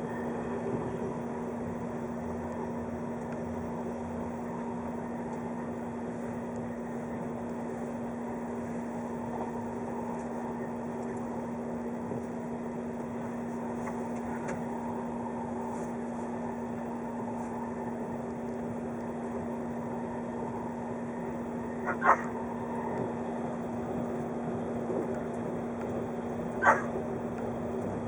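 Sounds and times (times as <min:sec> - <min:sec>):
constant electric hum: 0:00.0 - 0:28.0
train running rumble: 0:00.0 - 0:28.0.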